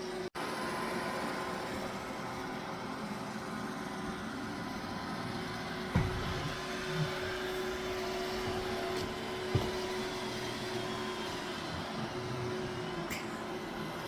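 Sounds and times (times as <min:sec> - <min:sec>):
robot vacuum humming: 0:00.4 - 0:14.0.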